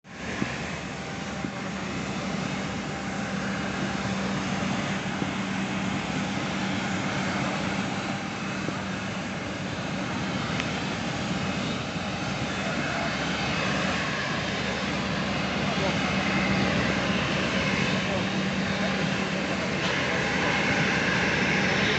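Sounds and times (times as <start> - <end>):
aircraft engines running: 0.0 - 21.9
constant low hum: 0.1 - 21.9.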